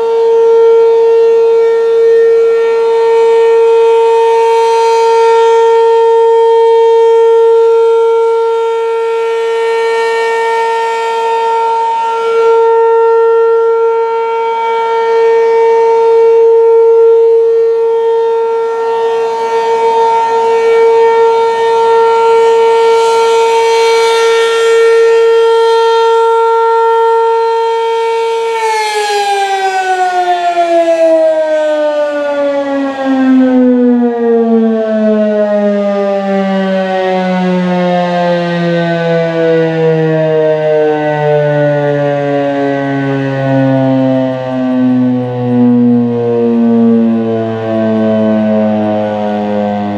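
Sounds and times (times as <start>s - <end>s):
rotating siren steady tone: 0.0s - 49.9s.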